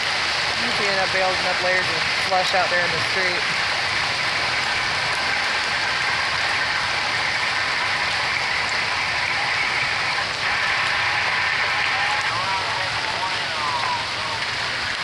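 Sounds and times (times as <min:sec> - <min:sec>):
hail and rain pelting down: 0:00.0 - 0:15.0.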